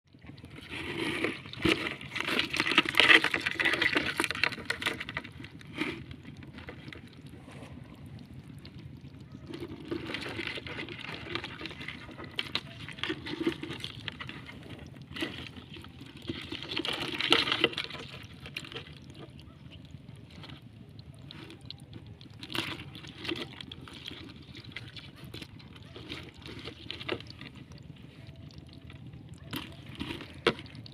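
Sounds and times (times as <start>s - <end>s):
water splashing and sloshing: 0.1s - 30.9s.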